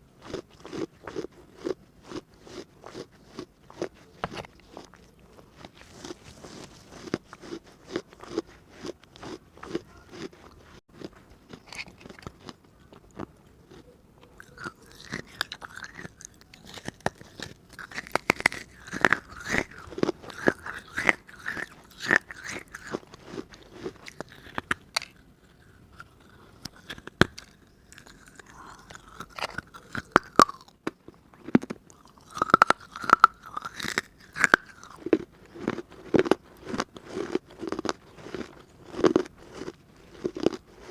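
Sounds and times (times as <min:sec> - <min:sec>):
crunching and chewing clay: 0:00.0 - 0:40.9.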